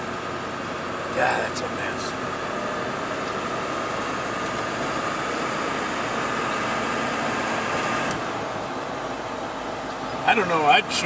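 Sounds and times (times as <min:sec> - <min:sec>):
vehicle cabin rumble and hiss: 0:00.0 - 0:11.0.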